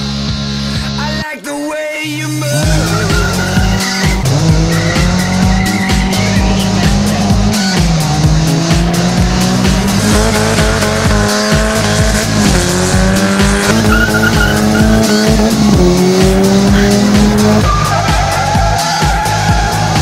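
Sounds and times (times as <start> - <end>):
background music with steady beat: 0.0 - 20.0
car engine accelerating: 2.4 - 20.0.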